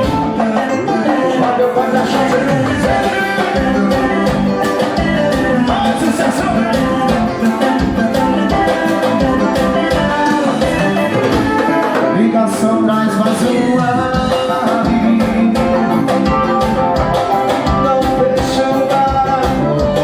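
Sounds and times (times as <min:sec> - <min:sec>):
band music with steady beat: 0:00.0 - 0:20.0.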